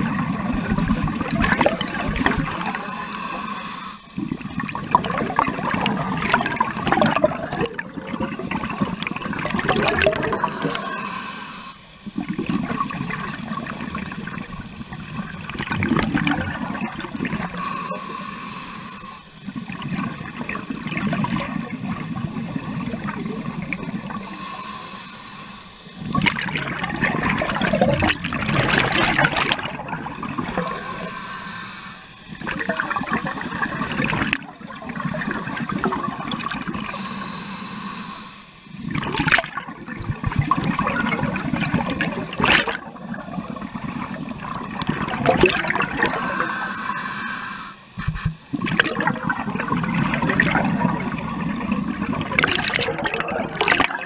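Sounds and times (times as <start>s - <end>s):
gurgling bubbles: 0.0s - 37.4s, 38.7s - 47.2s, 47.9s - 54.0s
underwater regulator breathing: 0.3s - 7.4s, 8.5s - 39.4s, 42.2s - 51.1s.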